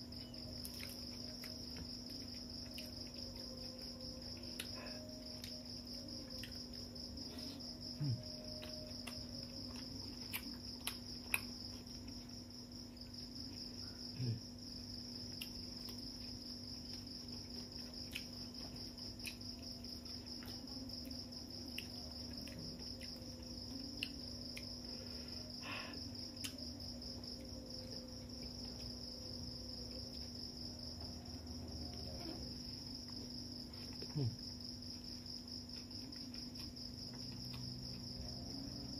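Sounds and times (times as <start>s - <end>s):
crickets chirring: 0.0s - 38.9s
low steady hum: 0.0s - 38.9s.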